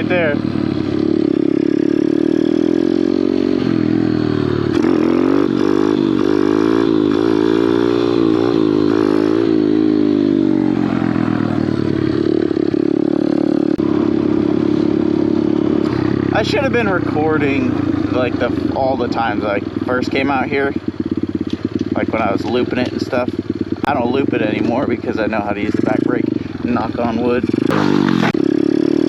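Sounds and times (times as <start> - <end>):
motorbike engine running: 0.0 - 29.0.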